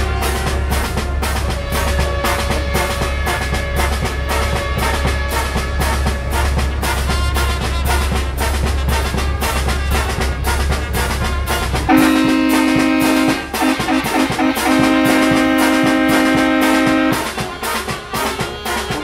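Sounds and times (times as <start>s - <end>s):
brass band music: 0.0s - 19.0s
steady drum beat: 0.0s - 19.0s
trombones and trumpets chords: 0.0s - 19.0s.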